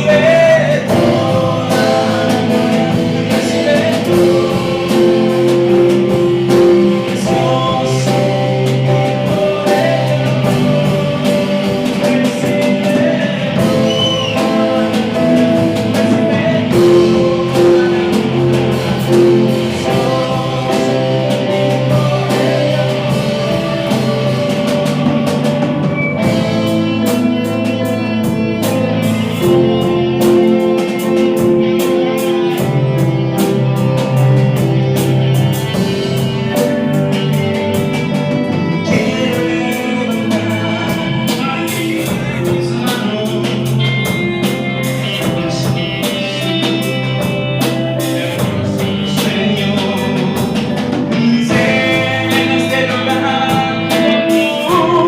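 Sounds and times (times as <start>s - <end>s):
worship band guitar and drums: 0.0s - 55.0s.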